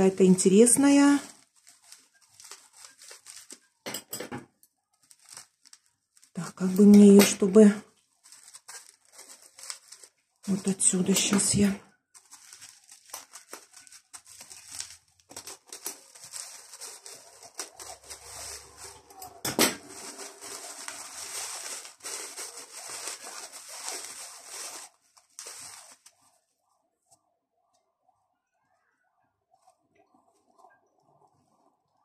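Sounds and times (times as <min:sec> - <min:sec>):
plastic bag crinkling: 0:00.0 - 0:26.8.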